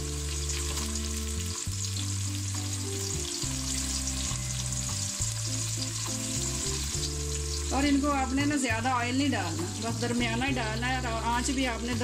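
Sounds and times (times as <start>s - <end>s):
food sizzling in hot oil: 0.0s - 12.0s
low background music: 0.0s - 12.0s.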